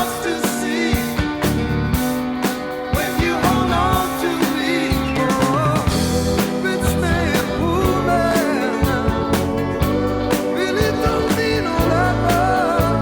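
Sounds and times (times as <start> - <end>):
person singing: 0.0 - 1.4, 2.9 - 13.0
band playing: 0.0 - 13.0
drums striking a steady beat: 0.0 - 13.0.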